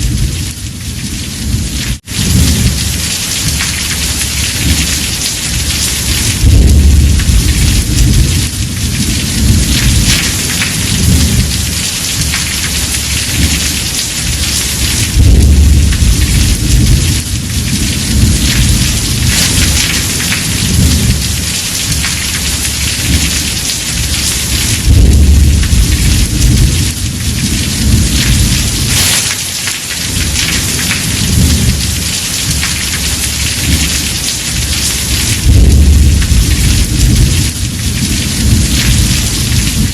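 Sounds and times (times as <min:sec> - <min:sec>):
heavy rain on a roof: 0:00.0 - 0:39.9
thunder rumbling: 0:00.0 - 0:39.9.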